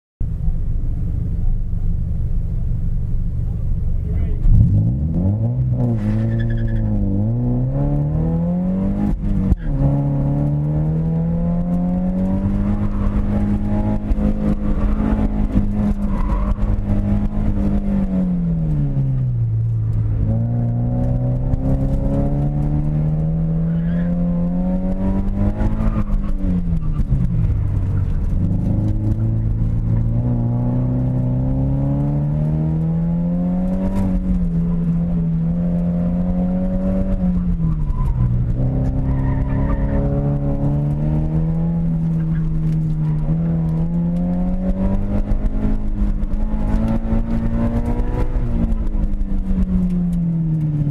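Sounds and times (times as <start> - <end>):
car engine revving hard: 4.4 - 19.1, 20.1 - 27.1, 28.1 - 37.5, 38.4 - 49.2.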